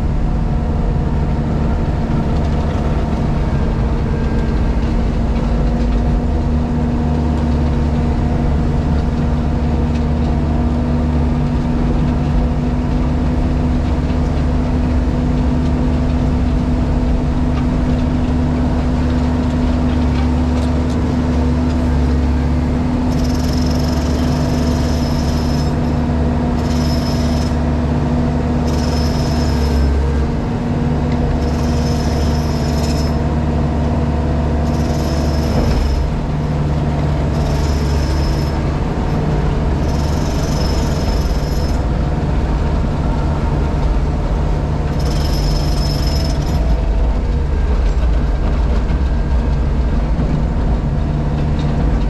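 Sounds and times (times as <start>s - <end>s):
diesel engine and hydraulics running: 0.0s - 52.0s.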